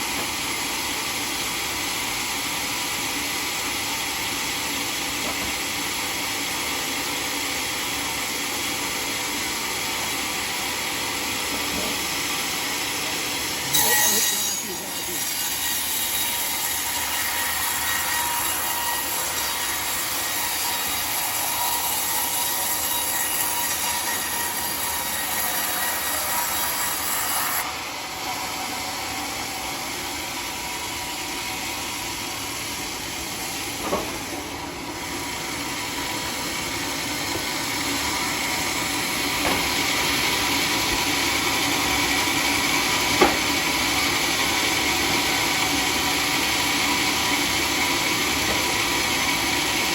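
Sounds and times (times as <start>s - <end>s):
circular saw cutting log: 0.0s - 49.9s.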